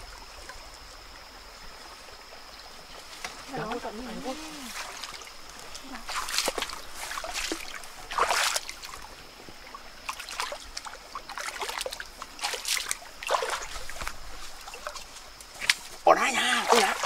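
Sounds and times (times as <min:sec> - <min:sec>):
water splashing from wading: 0:02.9 - 0:17.0.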